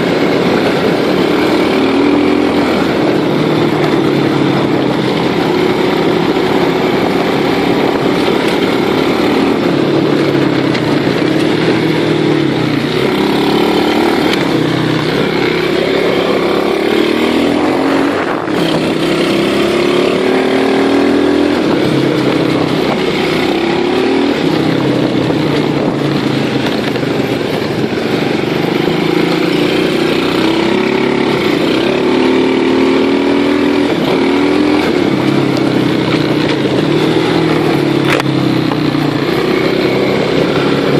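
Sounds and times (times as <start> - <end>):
small engine revving: 0.0 - 40.9.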